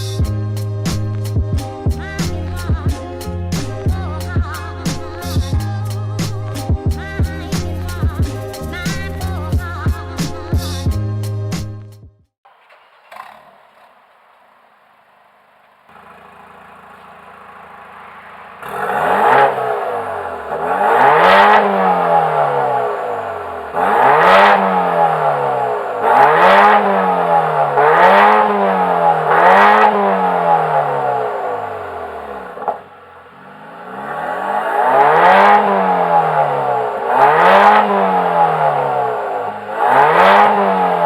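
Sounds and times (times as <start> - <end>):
car engine revving: 0.0 - 9.6, 12.6 - 41.0.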